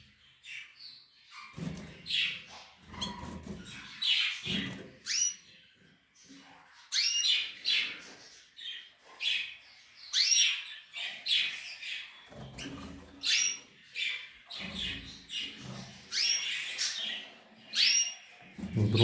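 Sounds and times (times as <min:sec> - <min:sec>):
caged finches chirping: 0:00.0 - 0:19.0.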